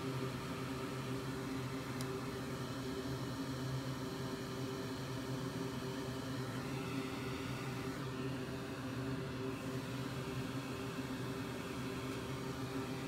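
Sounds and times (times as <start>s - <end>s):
electric fan hum: 0.0s - 13.0s.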